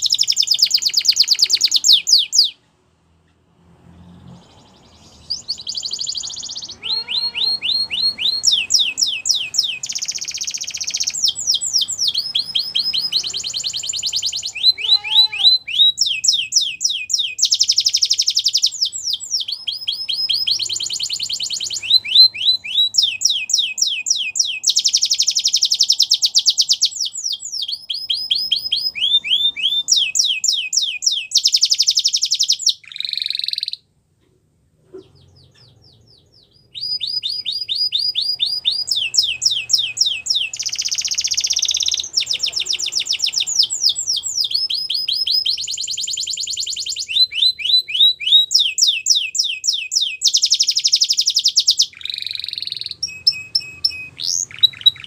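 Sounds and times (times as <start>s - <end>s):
canary singing trills: 0.0s - 2.6s, 4.0s - 33.9s, 34.9s - 55.0s.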